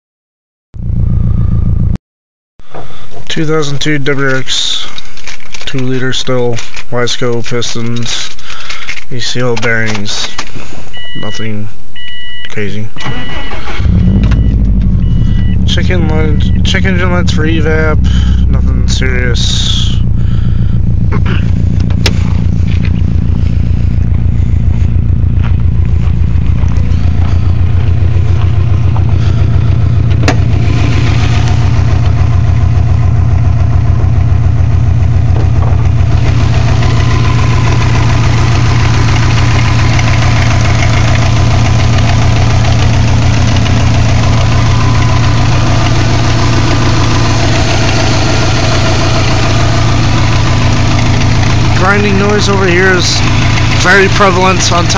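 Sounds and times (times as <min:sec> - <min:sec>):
car engine idling: 0:00.8 - 0:02.0, 0:02.6 - 0:54.9
engine grinding noise: 0:02.6 - 0:11.2, 0:13.0 - 0:54.9.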